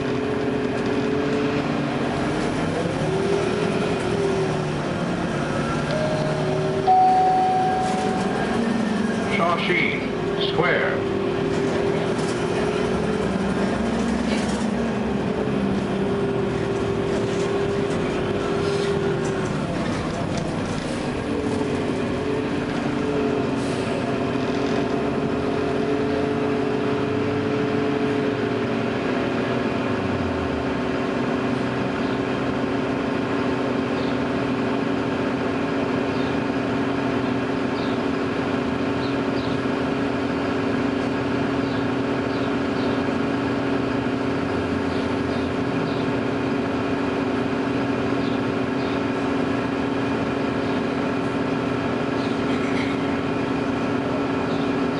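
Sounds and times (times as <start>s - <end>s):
bus drive whine: 0.0s - 54.9s.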